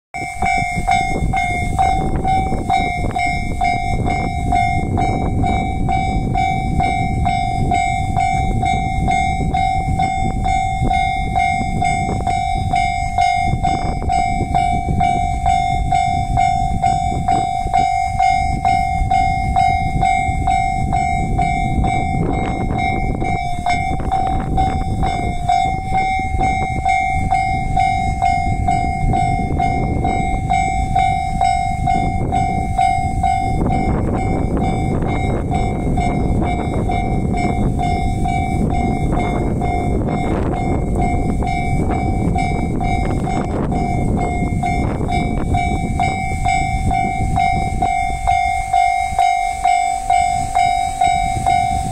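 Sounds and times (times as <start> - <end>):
level crossing alarm bell: 0.2 - 51.9.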